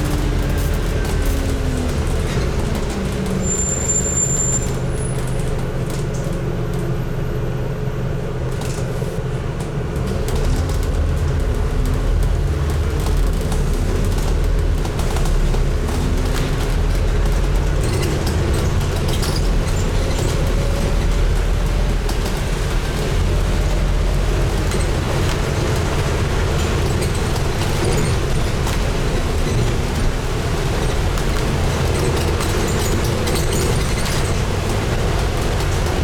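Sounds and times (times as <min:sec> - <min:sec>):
bus diesel engine running: 0:00.0 - 0:36.0
road and body noise: 0:00.0 - 0:36.0.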